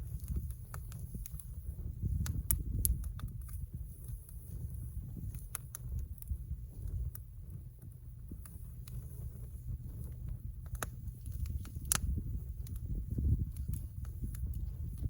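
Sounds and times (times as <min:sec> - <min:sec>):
campfire crackling and popping: 0:00.0 - 0:15.0
wind rumble on microphone: 0:00.0 - 0:15.0.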